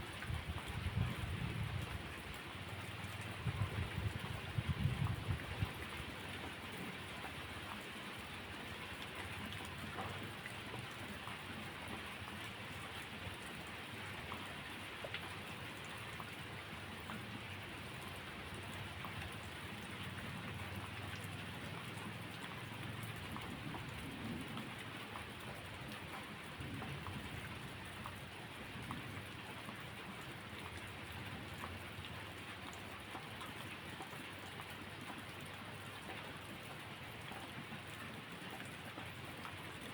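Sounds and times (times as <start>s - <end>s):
steady rain falling: 0.0s - 39.9s
drip-like ticks: 4.8s - 39.9s.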